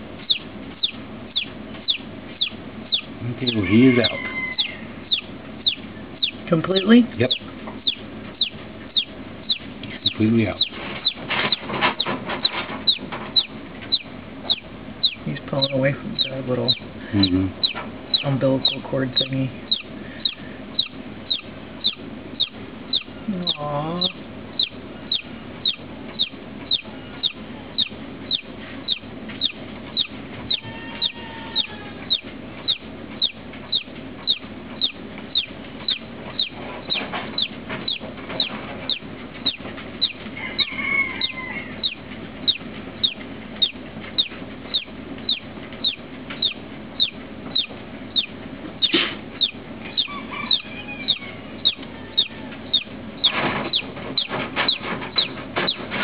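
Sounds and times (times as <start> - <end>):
chick peeping: 0.0 - 56.0
steady low hum: 0.0 - 56.0.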